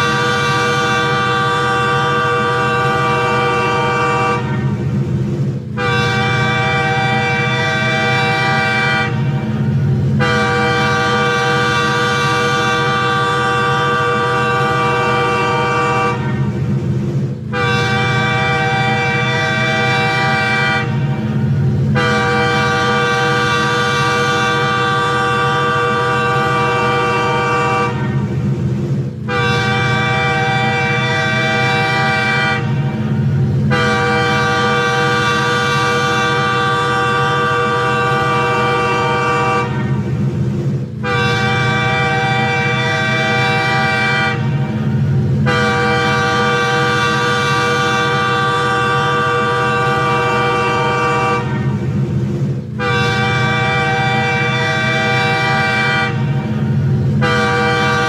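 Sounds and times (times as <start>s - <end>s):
train air horn blasts: 0.0s - 5.0s, 5.6s - 28.5s, 29.1s - 40.2s, 40.8s - 58.0s.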